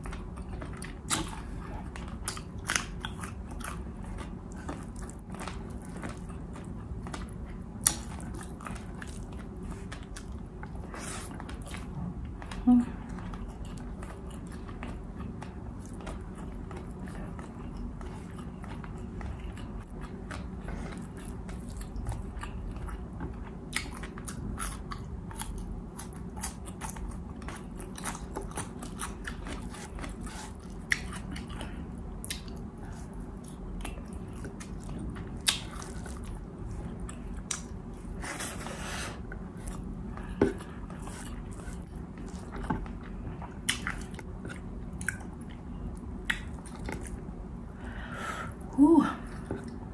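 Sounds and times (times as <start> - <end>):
person chewing: 0.0 - 12.6, 13.2 - 48.7
steady low hum: 0.0 - 49.9.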